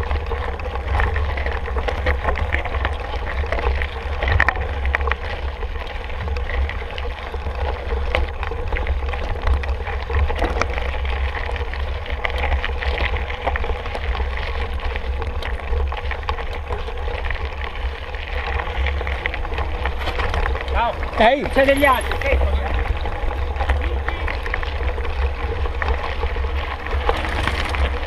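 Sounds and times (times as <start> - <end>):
bike clicks and rattles: 0.0 - 28.0.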